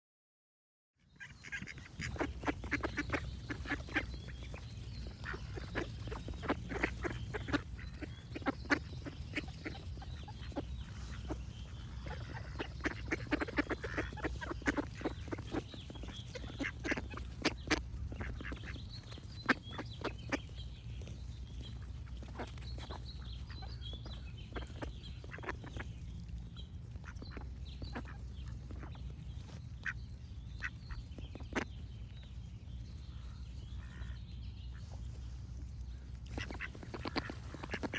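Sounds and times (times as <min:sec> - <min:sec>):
birds chirping: 0:01.0 - 0:37.9
ducks quacking: 0:01.0 - 0:37.9
steady low rumble: 0:01.2 - 0:37.9.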